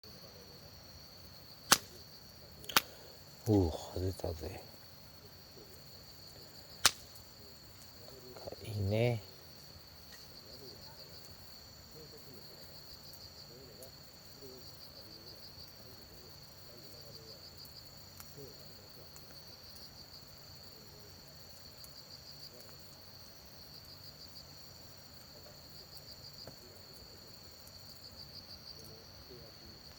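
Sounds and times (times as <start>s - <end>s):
campfire crackling: 0.0s - 29.9s
insects trilling: 0.0s - 29.9s.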